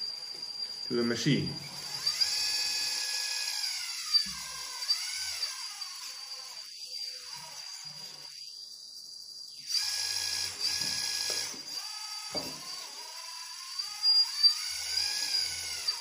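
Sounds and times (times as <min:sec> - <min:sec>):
hydraulic pump whining: 0:00.0 - 0:08.4, 0:09.6 - 0:16.0.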